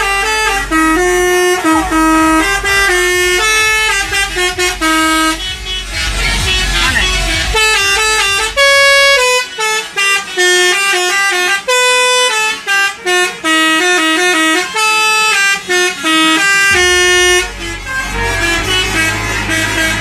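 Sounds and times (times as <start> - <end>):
multi-tone horn playing a tune: 0.0 - 20.0.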